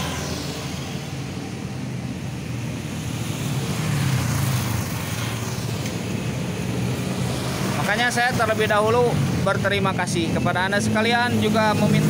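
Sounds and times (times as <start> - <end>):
road vehicle rumbling past: 0.0 - 12.0.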